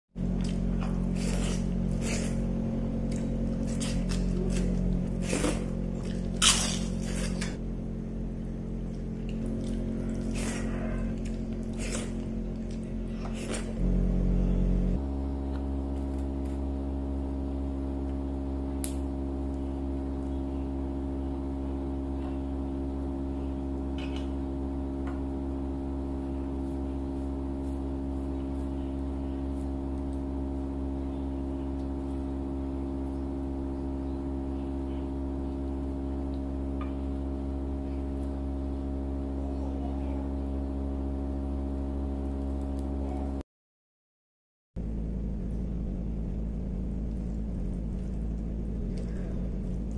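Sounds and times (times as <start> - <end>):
low drone of several pitches: 0.2 - 42.4.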